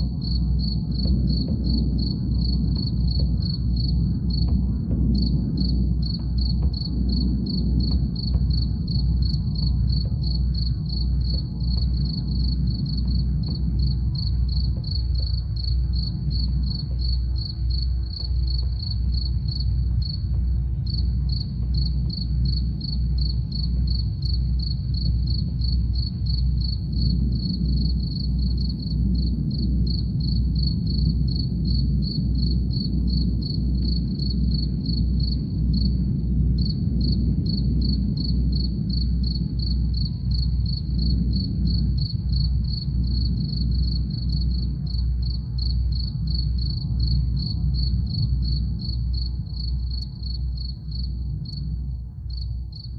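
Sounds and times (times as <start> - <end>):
crickets chirping: 0.0 - 52.9
faint sustained drone: 0.0 - 52.9
low drum pulse: 0.0 - 52.9.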